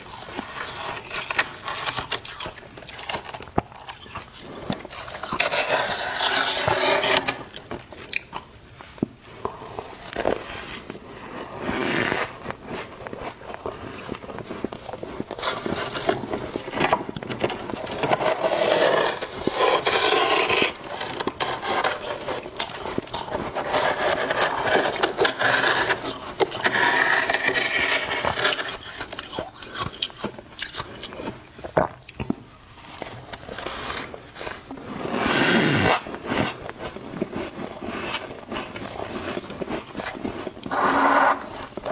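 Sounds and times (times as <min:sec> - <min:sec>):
frost scraped and crunched: 0:00.0 - 0:30.2, 0:32.8 - 0:41.9.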